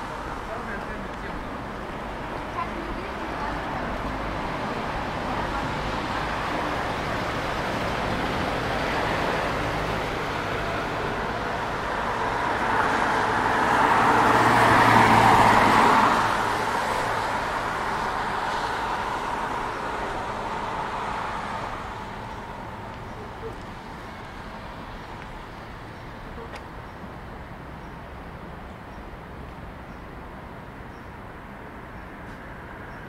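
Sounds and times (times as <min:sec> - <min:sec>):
vehicle passing by: 0:00.0 - 0:26.6
street noise: 0:00.0 - 0:33.0.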